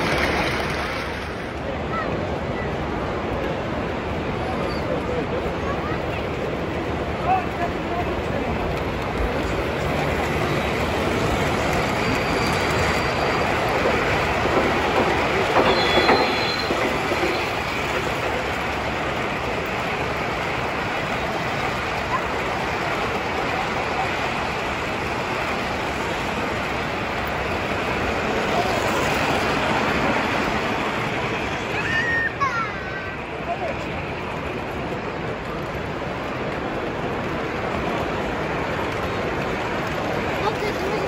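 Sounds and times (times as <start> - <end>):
model train wheels rumbling: 0.0 - 41.0.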